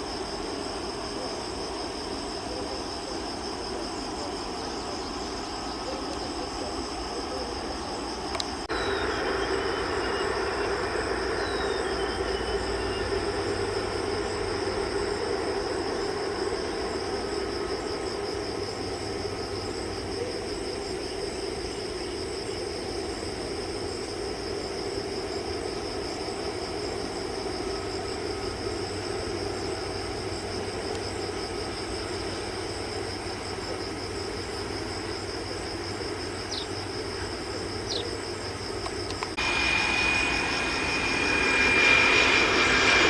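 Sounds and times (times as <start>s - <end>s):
jet engines rumbling and whining: 0.0s - 43.0s.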